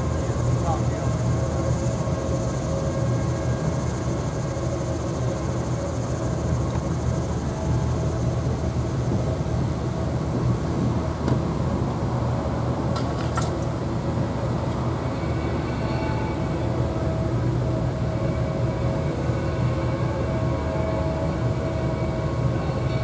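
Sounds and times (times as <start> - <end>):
distant locomotive engine drone: 0.0 - 23.0.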